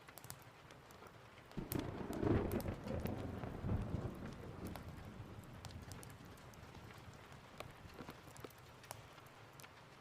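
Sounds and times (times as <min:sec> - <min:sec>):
crackling pops and ticks: 0:00.0 - 0:10.0.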